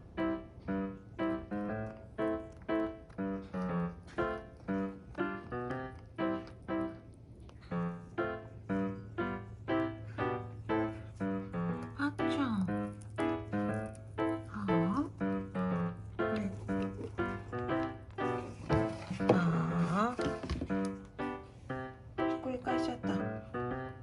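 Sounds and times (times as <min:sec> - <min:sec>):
piano melody: 0:00.0 - 0:24.0.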